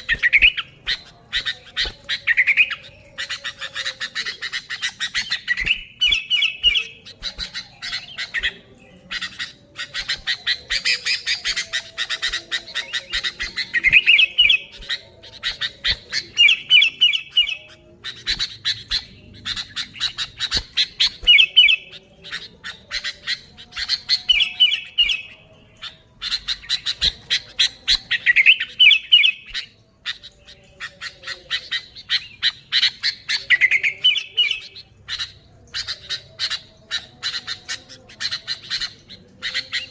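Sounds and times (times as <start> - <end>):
bulbul chattering calls: 0.0 - 39.9.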